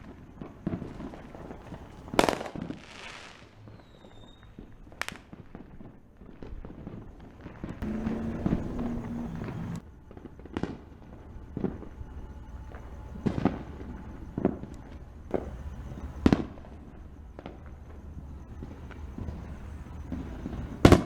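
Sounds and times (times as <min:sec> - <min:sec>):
distant fireworks bangs: 0:00.0 - 0:21.0.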